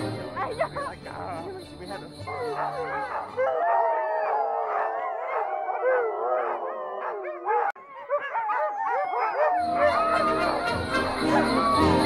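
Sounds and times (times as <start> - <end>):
sled dogs howling and yipping: 2.2 - 12.0.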